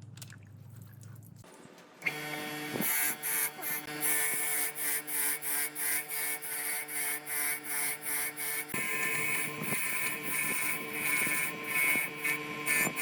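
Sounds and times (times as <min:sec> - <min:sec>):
electric motor humming: 0:02.0 - 0:13.0
filing back and forth: 0:02.0 - 0:13.0.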